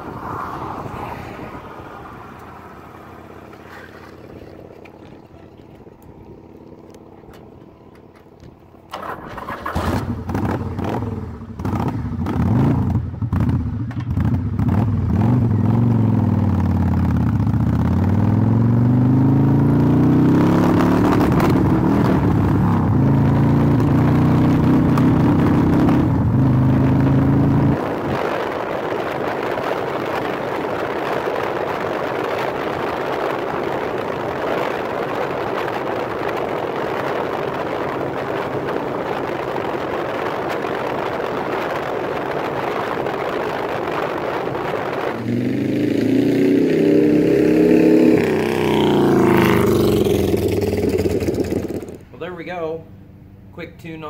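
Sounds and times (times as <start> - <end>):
motorcycle engine: 0.0 - 52.2.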